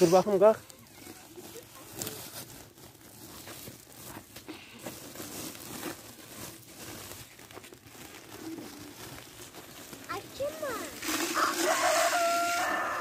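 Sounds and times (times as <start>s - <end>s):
plastic sack rustling and crinkling: 0.0s - 13.0s.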